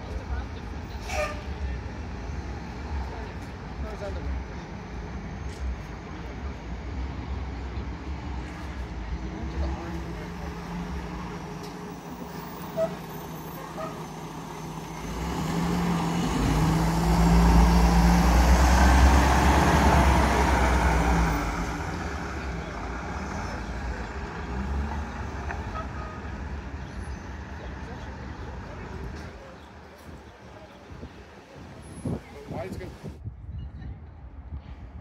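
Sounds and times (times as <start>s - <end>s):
bus diesel engine pulling away: 0.0s - 33.2s.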